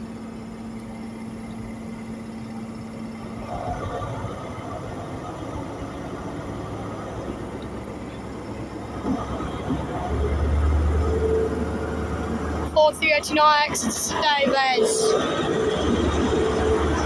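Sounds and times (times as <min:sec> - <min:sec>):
diesel train engine rumbling: 0:00.0 - 0:17.0.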